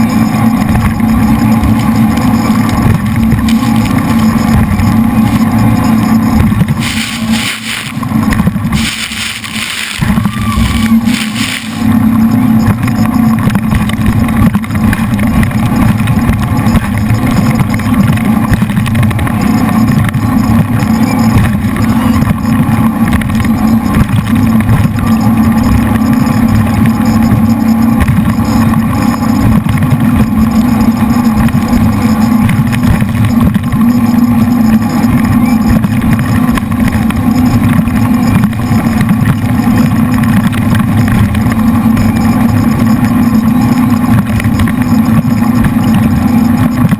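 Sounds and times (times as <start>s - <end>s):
jet boat engines roaring: 0.0s - 46.9s.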